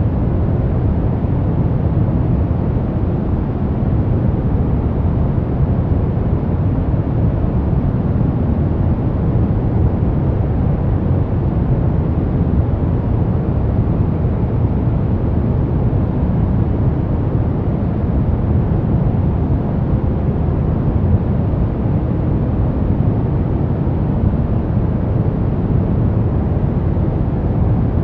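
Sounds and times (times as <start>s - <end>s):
deep steady white noise: 0.0s - 28.0s.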